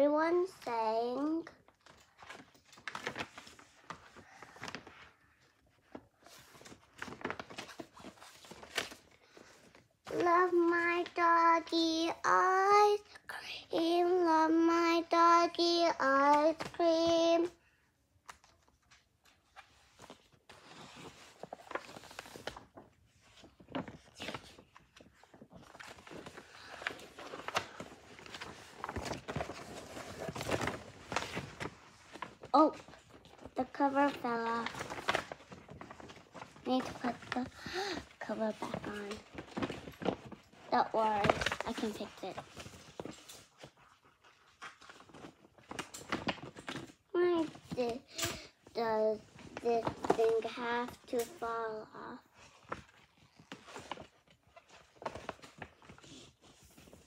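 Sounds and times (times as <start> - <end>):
pages turning: 1.6 - 12.7, 14.2 - 17.5, 18.2 - 57.0.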